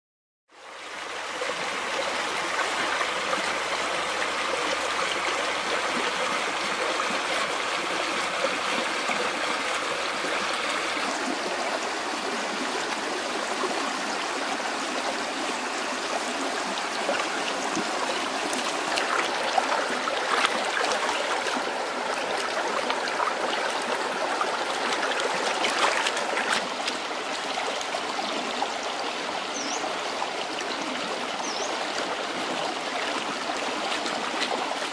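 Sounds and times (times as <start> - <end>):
small stream babbling: 0.5 - 34.9.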